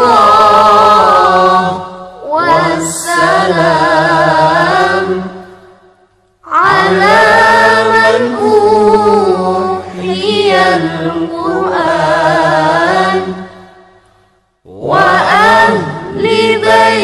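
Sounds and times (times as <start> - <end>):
person singing devotional chant: 0.0 - 5.8, 6.4 - 14.0, 14.6 - 17.0.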